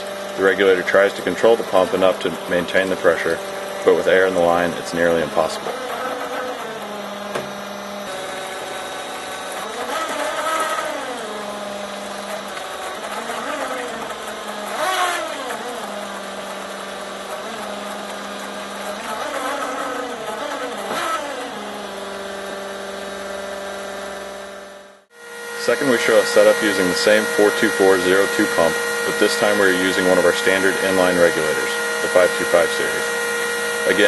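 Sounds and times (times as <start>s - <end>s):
electric fuel pump surging: 0.0s - 34.0s.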